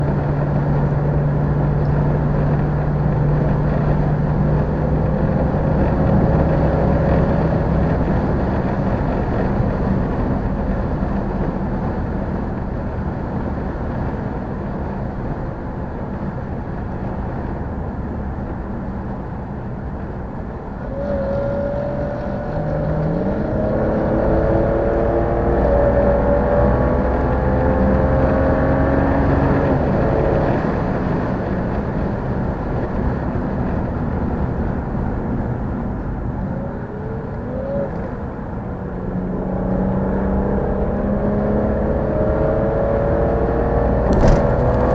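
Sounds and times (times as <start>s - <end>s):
car engine accelerating: 0.0s - 15.2s, 16.2s - 44.9s.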